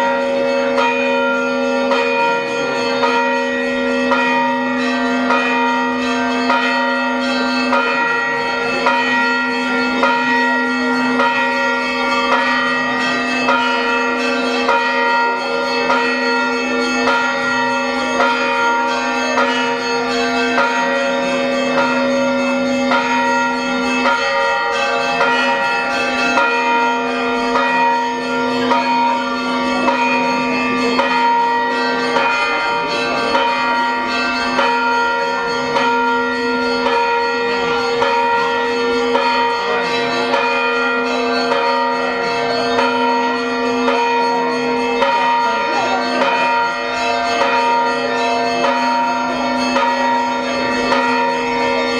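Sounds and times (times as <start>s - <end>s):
church bells ringing a peal: 0.0s - 51.9s.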